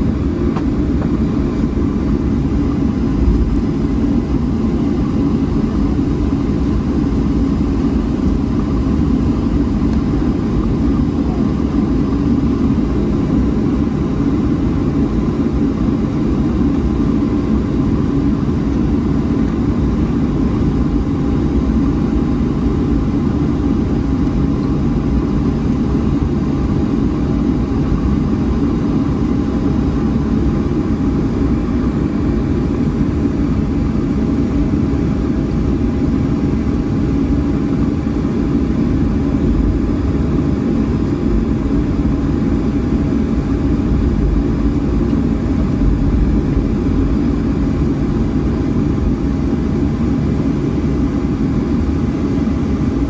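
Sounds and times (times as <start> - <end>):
jet engines idling rumble: 0.0 - 53.0
thin steady whine: 0.0 - 53.0.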